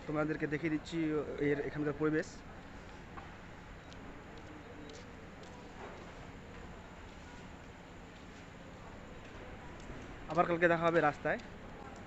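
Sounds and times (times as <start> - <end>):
low steady hiss and hum: 0.0 - 12.0.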